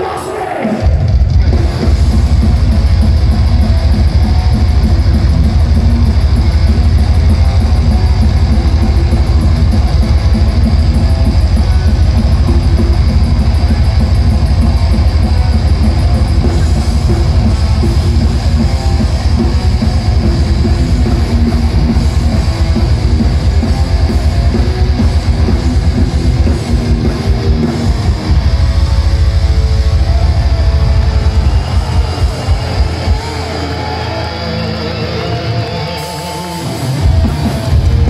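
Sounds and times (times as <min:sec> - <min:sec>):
fast drumming: 0:00.0 - 0:34.2, 0:36.8 - 0:38.0
distorted electric guitars: 0:00.0 - 0:38.0
thrash metal band playing live: 0:00.0 - 0:38.0.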